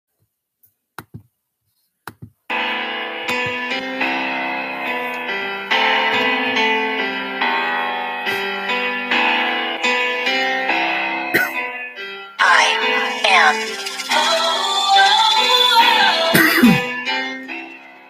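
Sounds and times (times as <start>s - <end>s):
keyboard chords: 2.5s - 18.0s.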